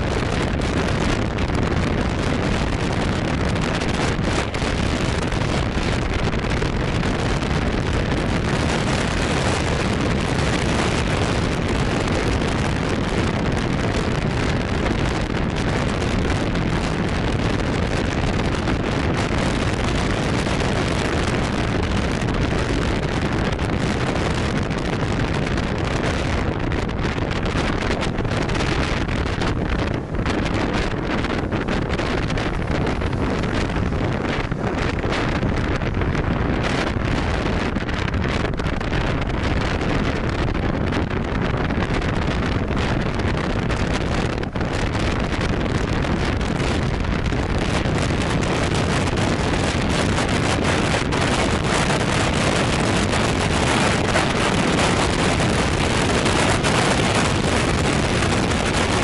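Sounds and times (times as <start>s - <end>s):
road noise: 0.0s - 59.0s
wind rushing over microphone: 0.0s - 59.0s.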